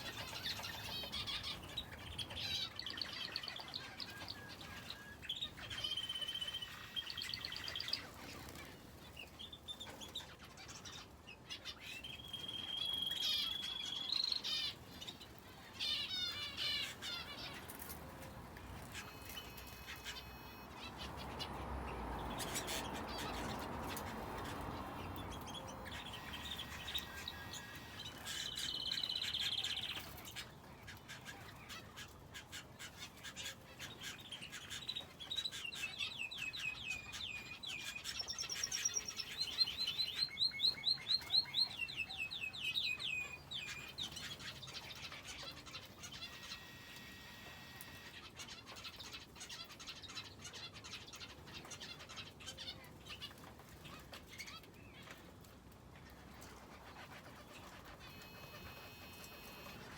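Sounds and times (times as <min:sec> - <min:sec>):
cage birds chirping and singing: 0:00.0 - 0:59.9.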